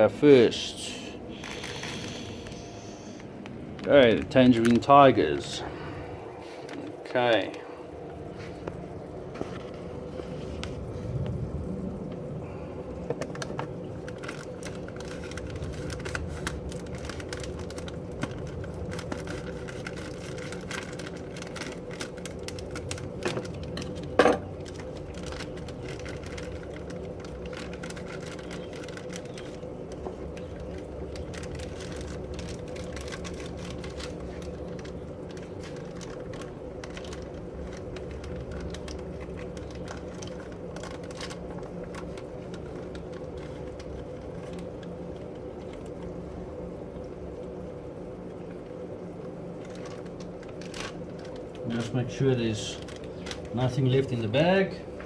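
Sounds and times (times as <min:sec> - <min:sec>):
aquarium air pumps humming: 0:00.0 - 0:55.0.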